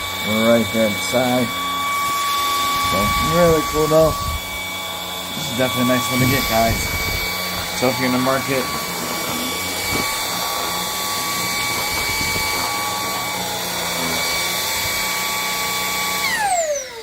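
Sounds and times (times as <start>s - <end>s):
motor spinning down: 0.0s - 17.0s
vacuum cleaner motor whine: 0.0s - 17.0s.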